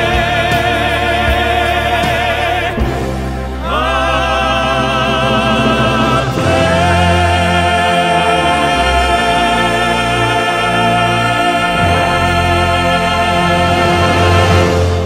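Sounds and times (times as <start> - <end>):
sustained chords: 0.0 - 15.0
voices singing with vibrato: 0.0 - 15.0.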